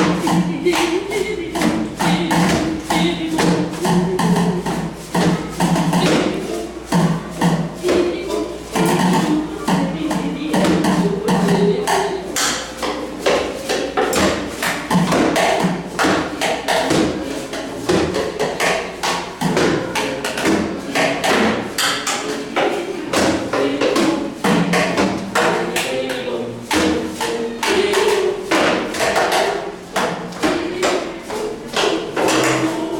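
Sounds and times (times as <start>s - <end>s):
percussion on found objects: 0.0s - 32.9s.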